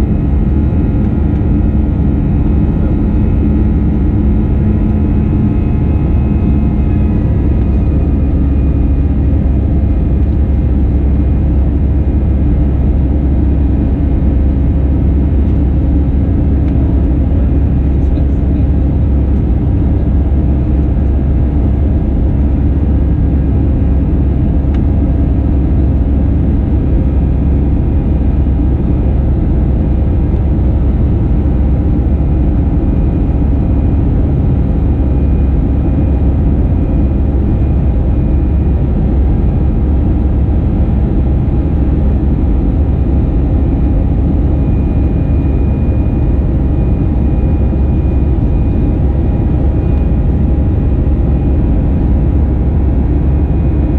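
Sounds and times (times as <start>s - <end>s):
airplane cabin low rumble: 0.0s - 53.9s
faint jet engine tones: 0.0s - 53.9s.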